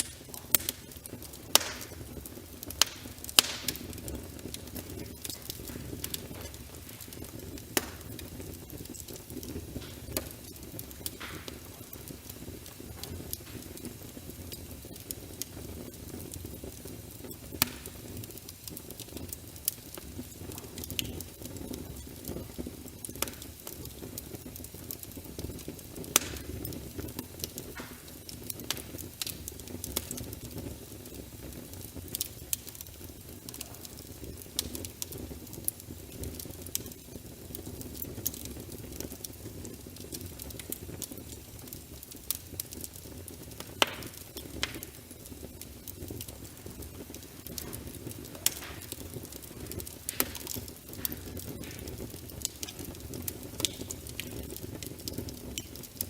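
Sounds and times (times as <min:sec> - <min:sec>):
low rumble of flames: 0:00.0 - 0:56.0
sharp fire pops: 0:00.0 - 0:56.0
wood fire crackling: 0:00.0 - 0:56.0.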